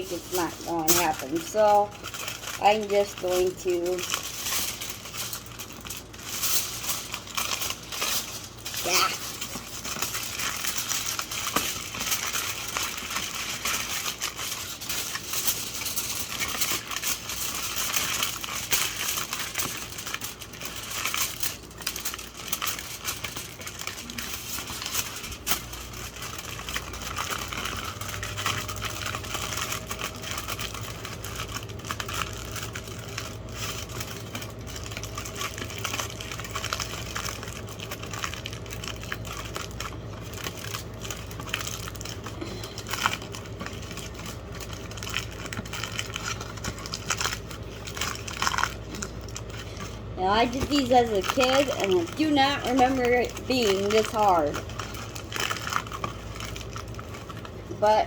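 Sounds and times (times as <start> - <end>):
aluminium foil crinkling: 0.0 - 58.0.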